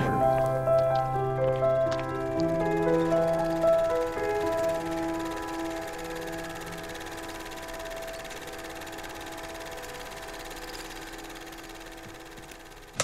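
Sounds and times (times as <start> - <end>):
held musical chord: 0.0 - 12.9
film projector whirring and ticking: 0.6 - 13.0.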